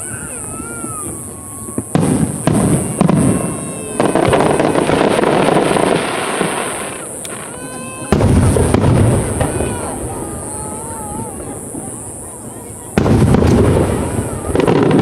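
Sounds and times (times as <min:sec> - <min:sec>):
firework bangs and crackle: 0:00.0 - 0:15.0
firework shells booming: 0:00.1 - 0:15.0.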